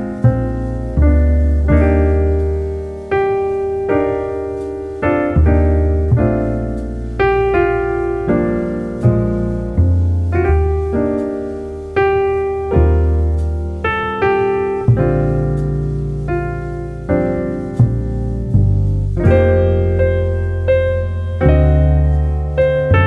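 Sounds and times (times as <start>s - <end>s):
low bass notes: 0.0s - 23.0s
slow piano music: 0.0s - 23.0s.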